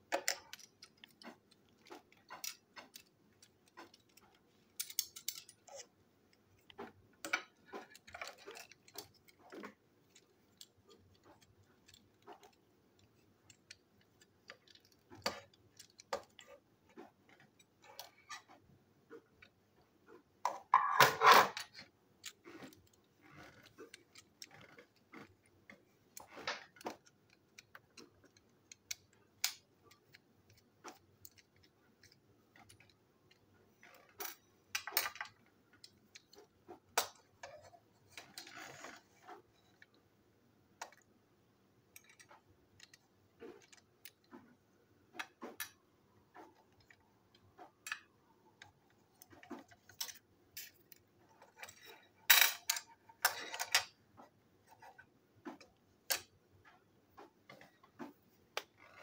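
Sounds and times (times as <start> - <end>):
plastic parts clicking: 0.0 - 18.6, 20.5 - 40.0, 41.8 - 54.0.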